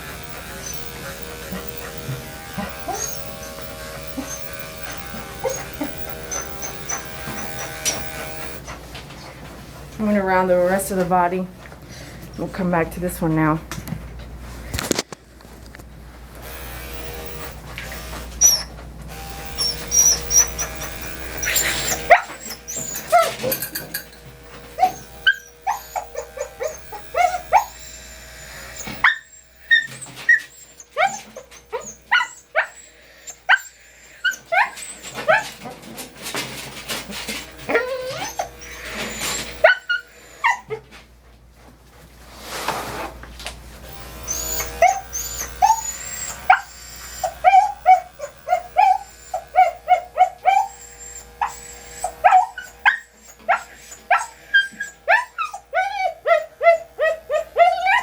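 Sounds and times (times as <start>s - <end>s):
electric clipper humming: 0.0s - 8.7s, 12.8s - 41.1s, 43.4s - 58.0s
dog yapping and whining: 0.0s - 8.9s, 16.5s - 41.0s, 43.9s - 58.0s.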